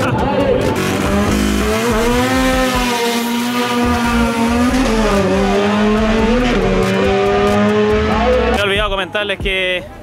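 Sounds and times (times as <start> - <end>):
racing car engines revving: 0.0 - 8.8.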